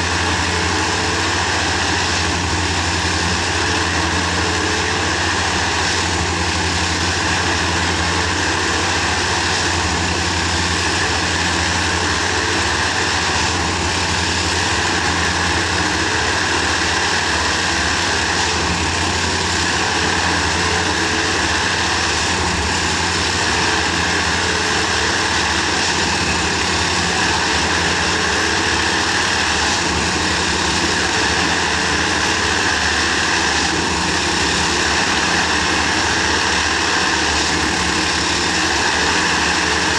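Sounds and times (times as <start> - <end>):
heavy machine engine drone: 0.0 - 39.9.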